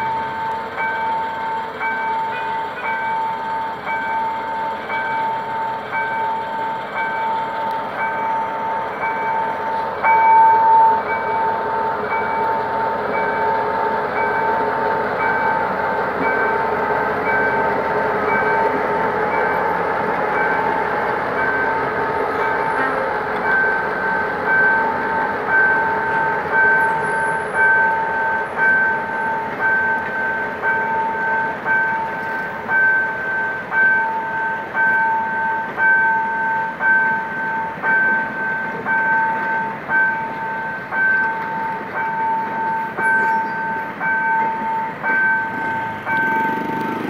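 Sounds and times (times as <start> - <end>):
diesel locomotive pulling away: 0.0 - 47.0
level crossing warning bell: 0.0 - 47.0
train coaches rolling on track: 0.0 - 47.0.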